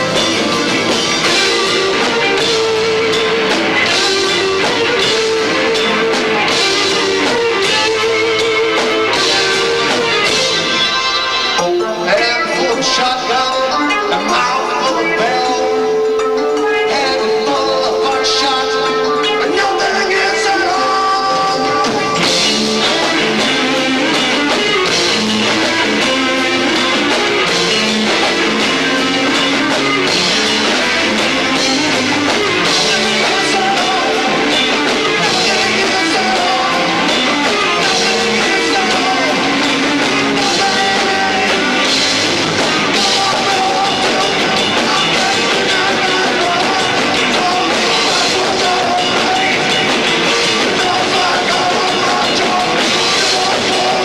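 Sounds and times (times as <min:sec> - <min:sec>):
person singing: 0:00.0 - 0:10.6, 0:11.6 - 0:54.0
rock band playing live: 0:00.0 - 0:54.0.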